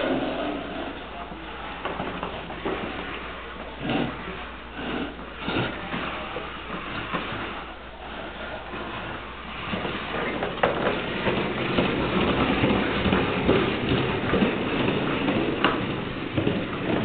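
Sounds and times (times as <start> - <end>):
plastic wheels rolling on tiles: 0.0 - 17.0.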